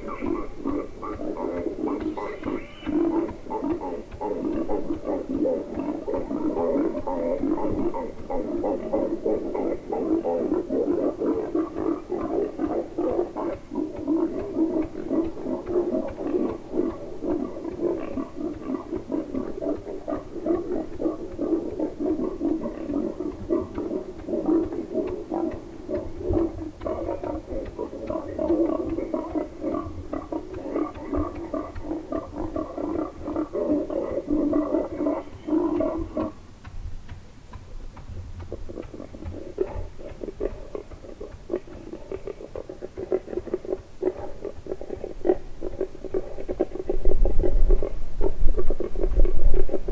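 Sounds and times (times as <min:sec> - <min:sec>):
wild boar grunting: 0:00.0 - 0:36.5, 0:37.7 - 0:49.9.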